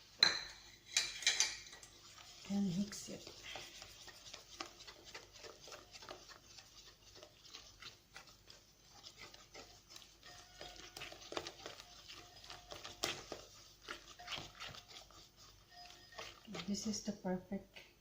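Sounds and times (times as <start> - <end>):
utensil scraping mixing bowl: 0.8 - 17.4.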